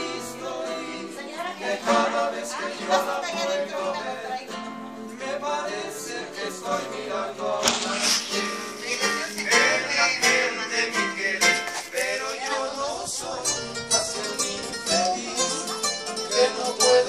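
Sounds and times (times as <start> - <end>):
acoustic guitars strummed: 0.0 - 17.0
people singing along: 0.0 - 17.0.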